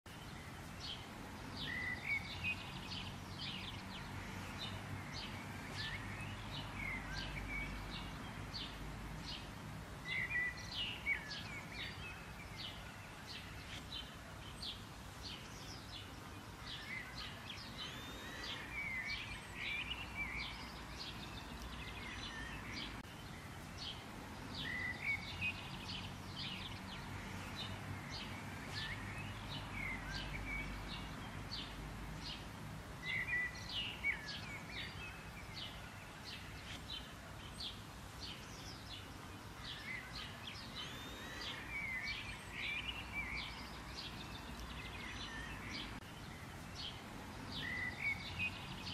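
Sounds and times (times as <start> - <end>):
small songbirds chirping: 0.1 - 48.9.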